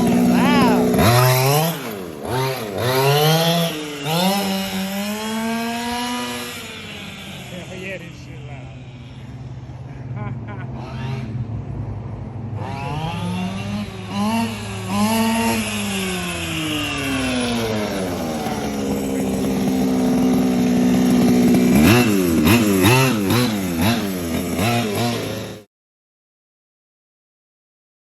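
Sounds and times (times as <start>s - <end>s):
two-stroke engine revving: 0.0s - 25.7s.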